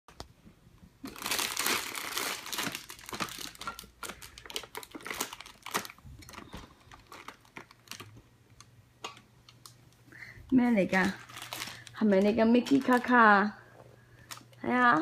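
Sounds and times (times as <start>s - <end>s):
packaging crinkling: 1.0s - 9.8s, 10.8s - 13.4s, 14.1s - 15.0s.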